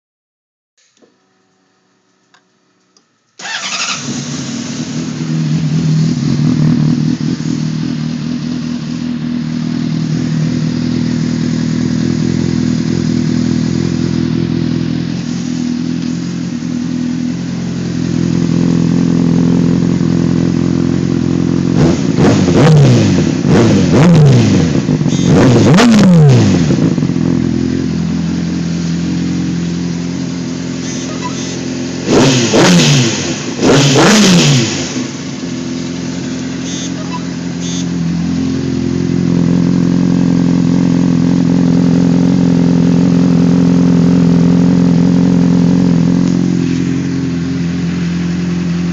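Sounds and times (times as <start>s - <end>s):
motorcycle engine idling and revving: 3.4s - 48.9s.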